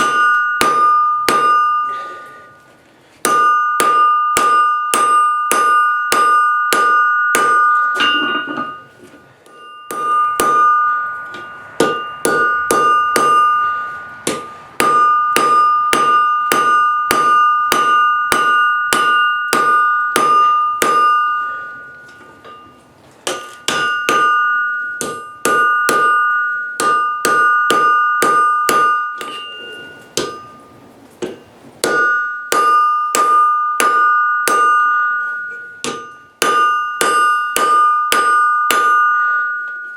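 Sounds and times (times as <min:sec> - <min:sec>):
hammer striking steel on anvil: 0:00.0 - 0:02.6, 0:03.2 - 0:39.9
anvil ringing: 0:00.0 - 0:39.9.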